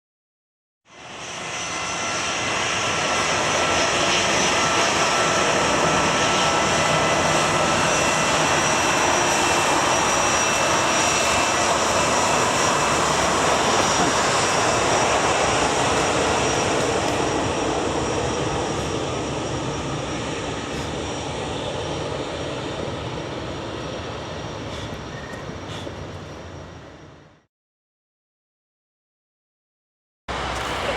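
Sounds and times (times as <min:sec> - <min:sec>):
jet engines roaring and whining: 0:00.9 - 0:27.5, 0:30.3 - 0:30.9.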